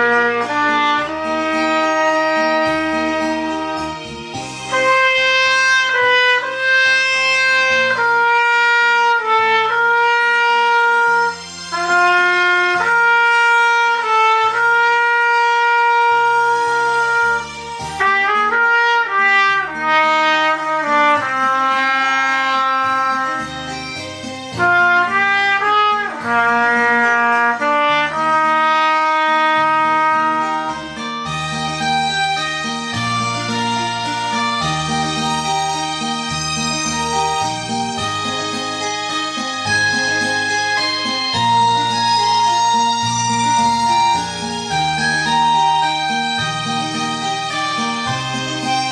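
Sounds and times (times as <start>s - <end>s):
backing accompaniment low chords: 0.0s - 48.9s
brass instrument melody: 0.0s - 48.9s.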